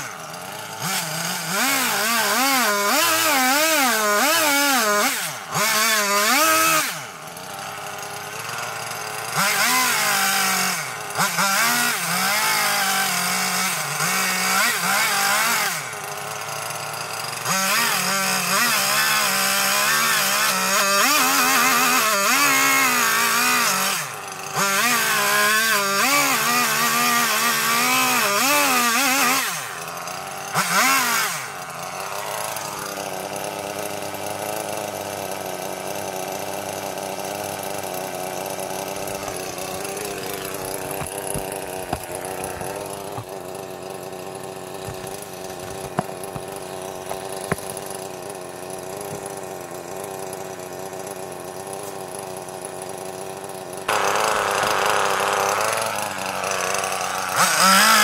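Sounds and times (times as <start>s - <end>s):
chainsaw cutting log: 0.0s - 58.0s
chainsaw idling: 0.0s - 58.0s.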